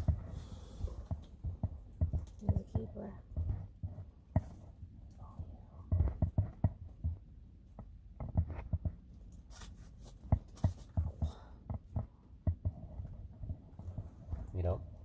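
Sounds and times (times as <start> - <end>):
soft thumps and taps of fish handling: 0.0 - 9.1, 10.2 - 14.5.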